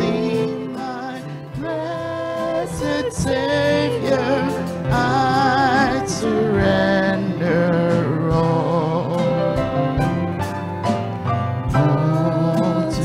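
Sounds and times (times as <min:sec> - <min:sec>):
hymn singing with vibrato: 0:00.0 - 0:09.7, 0:11.7 - 0:13.0
low instrumental accompaniment: 0:00.0 - 0:13.0.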